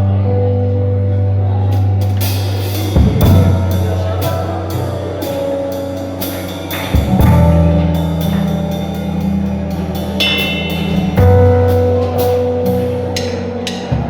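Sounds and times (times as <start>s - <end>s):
held bass notes: 0.0s - 14.0s
drum kit with cymbal strokes: 1.7s - 14.0s.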